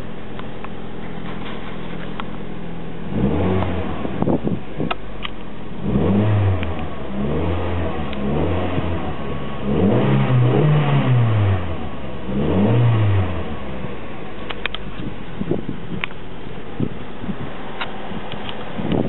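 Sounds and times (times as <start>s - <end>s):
car engine revving: 1.1s - 19.0s.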